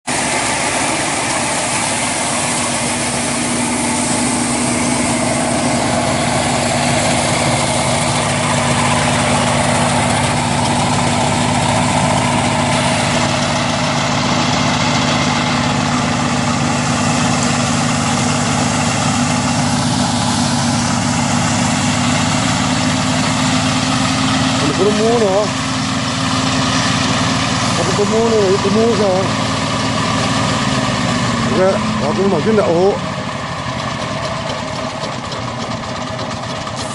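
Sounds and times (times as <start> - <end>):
combine harvester engine hum: 0.0 - 36.9
dense mechanical noise: 0.0 - 36.9.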